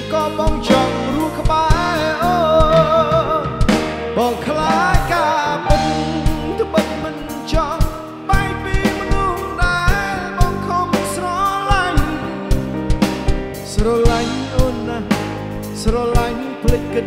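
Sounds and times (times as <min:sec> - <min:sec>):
man singing with vibrato: 0:00.0 - 0:12.8, 0:13.6 - 0:17.0
drum kit hits: 0:00.0 - 0:17.0
electric guitar: 0:00.0 - 0:17.0.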